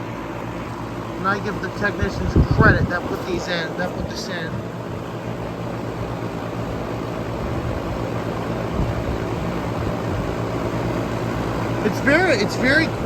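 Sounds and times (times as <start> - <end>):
condenser fan whoosh: 0.0 - 13.0
low compressor hum: 0.0 - 13.0.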